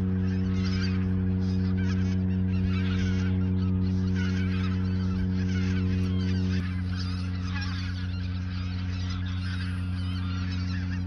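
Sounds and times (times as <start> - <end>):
geese honking: 0.0 - 11.0
steady low hum: 0.0 - 11.0.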